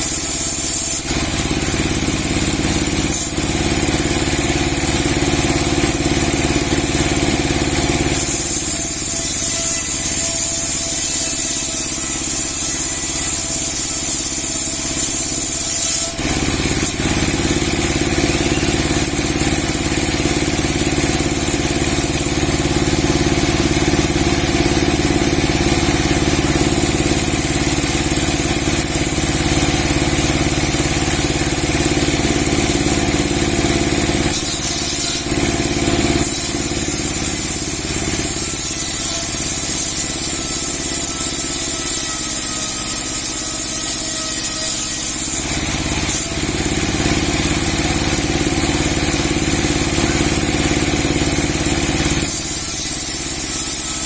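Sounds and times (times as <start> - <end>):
sawmill engine hum: 0.0 - 54.0.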